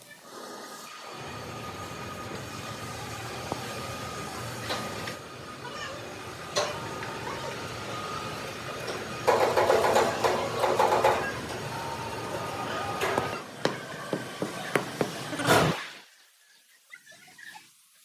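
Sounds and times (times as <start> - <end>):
workshop machinery running: 1.0 - 15.8.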